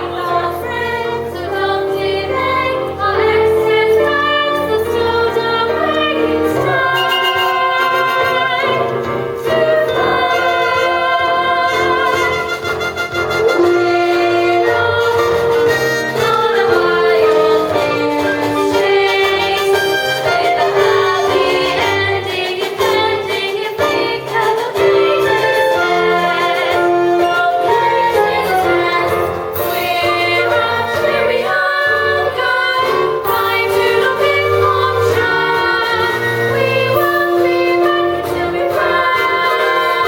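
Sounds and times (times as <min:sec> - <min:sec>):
children singing: 0:00.0 - 0:12.7, 0:13.4 - 0:40.0
instrumental accompaniment: 0:00.0 - 0:40.0.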